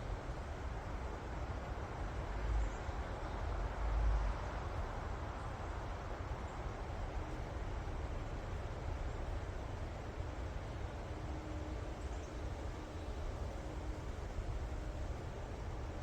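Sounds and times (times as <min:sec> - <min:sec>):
low rumble of wind gusts: 0:00.0 - 0:16.0.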